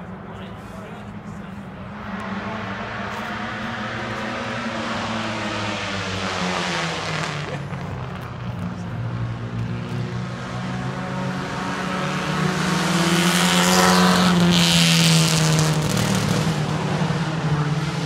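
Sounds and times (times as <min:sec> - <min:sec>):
engine drone: 0:00.0 - 0:18.0
race car passing: 0:00.1 - 0:18.0.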